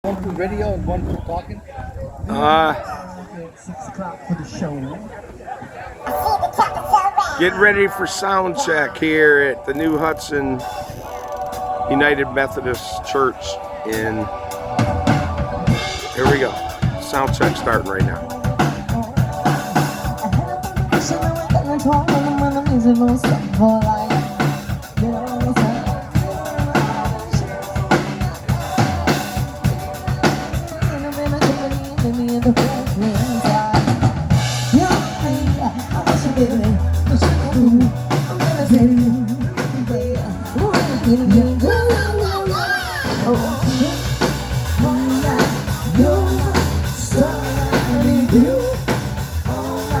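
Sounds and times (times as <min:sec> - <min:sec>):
live band playing: 0:06.0 - 0:50.0
drum kit beat: 0:06.1 - 0:50.0
person singing: 0:06.1 - 0:50.0
bass guitar: 0:07.2 - 0:50.0.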